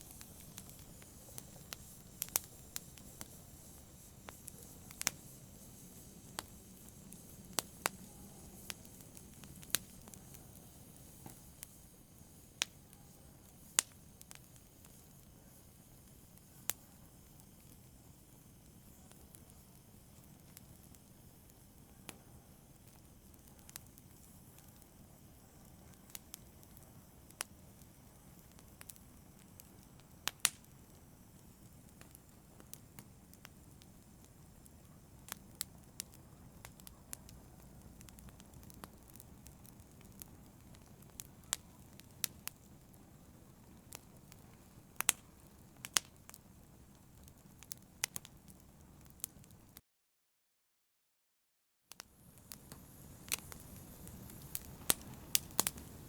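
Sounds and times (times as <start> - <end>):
faint low hiss: 0.0 - 49.8, 52.0 - 56.0
fire crackling: 0.0 - 49.8, 51.9 - 56.0.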